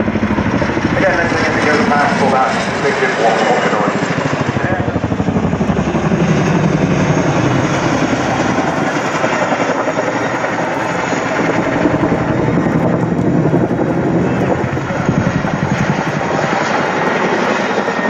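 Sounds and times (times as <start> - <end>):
helicopter engines: 0.0 - 18.0
helicopter rotor blades beating: 0.0 - 18.0.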